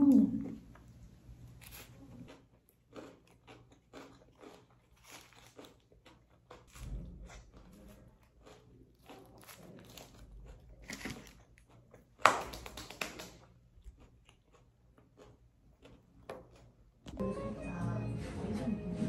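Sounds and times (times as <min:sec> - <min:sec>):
person chewing sandwich: 0:00.6 - 0:17.2.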